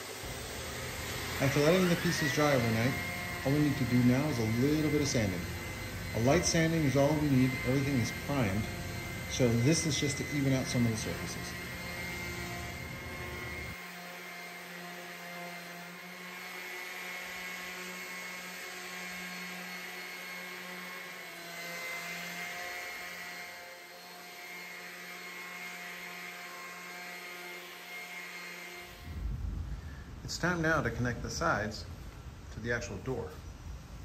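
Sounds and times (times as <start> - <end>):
electric sander humming: 0.0 - 29.5.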